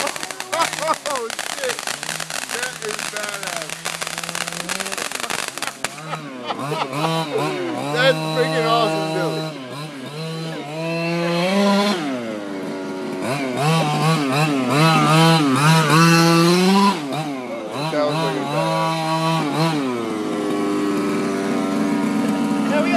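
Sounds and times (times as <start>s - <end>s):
small two-stroke engine revving: 0.0s - 22.9s.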